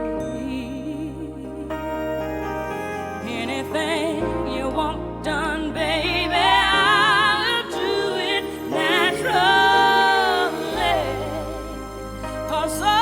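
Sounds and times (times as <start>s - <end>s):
backing track: 0.0s - 13.0s
deep bass: 0.0s - 13.0s.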